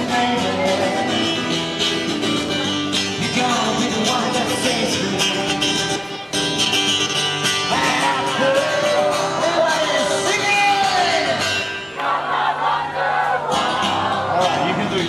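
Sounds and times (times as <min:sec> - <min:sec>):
guitar: 0:00.0 - 0:15.0.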